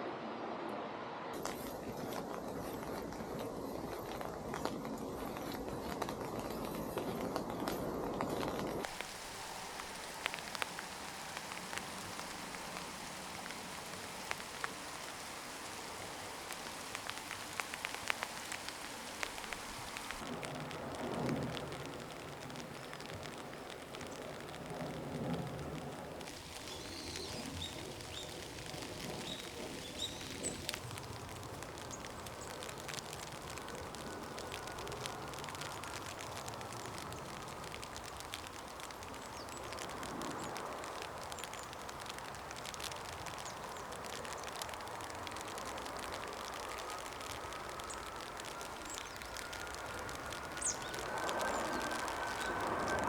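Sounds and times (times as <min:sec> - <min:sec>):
steady background noise: 0:00.0 - 0:53.0.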